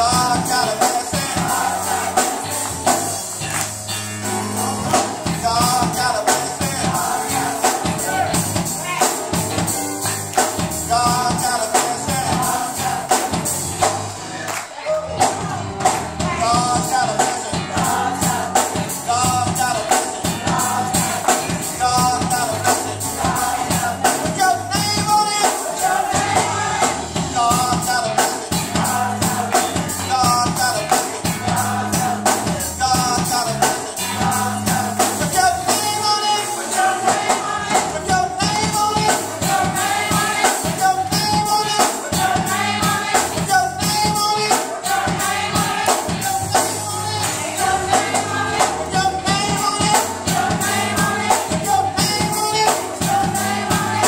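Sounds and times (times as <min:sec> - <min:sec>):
tambourine beat: 0:00.0 - 0:14.1, 0:15.2 - 0:54.0
gospel singing through speakers: 0:00.0 - 0:54.0.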